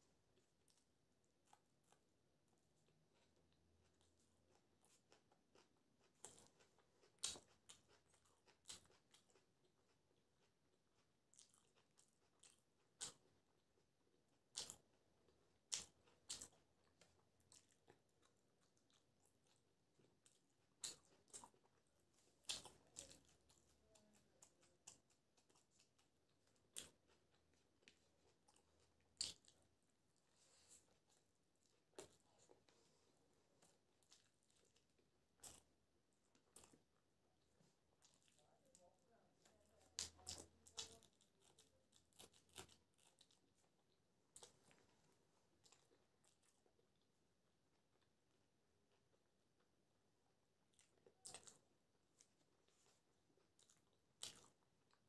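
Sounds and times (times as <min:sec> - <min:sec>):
soft chewing: 0:00.0 - 0:55.0.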